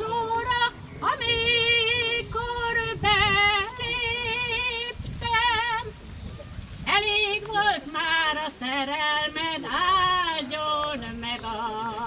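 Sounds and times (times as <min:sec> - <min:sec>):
women singing folk song: 0:00.0 - 0:06.1, 0:06.8 - 0:12.0.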